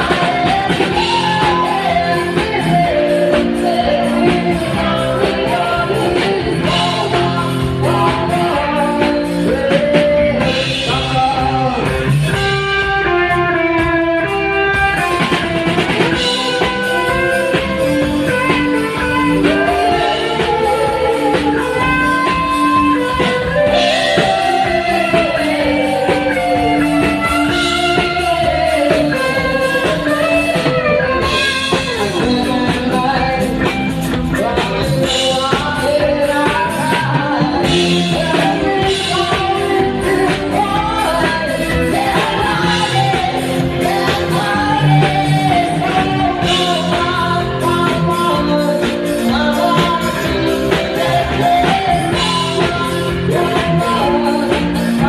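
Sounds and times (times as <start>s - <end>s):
rock song with singing: 0.0s - 55.0s.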